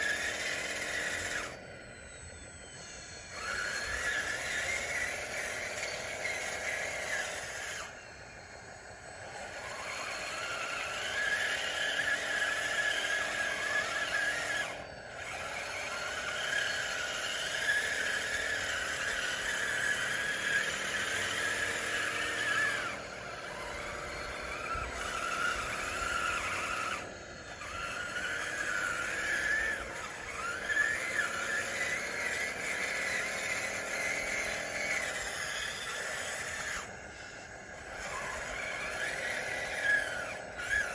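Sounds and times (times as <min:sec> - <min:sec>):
toy bulldozer motors whining: 0:00.0 - 0:40.9.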